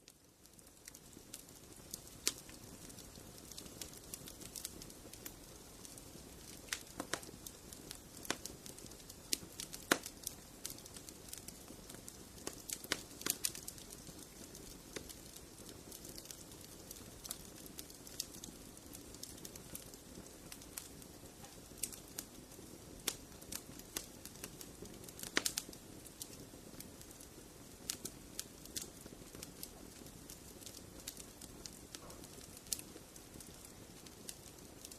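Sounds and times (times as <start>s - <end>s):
wood fire crackling in fireplace: 0.0s - 34.9s.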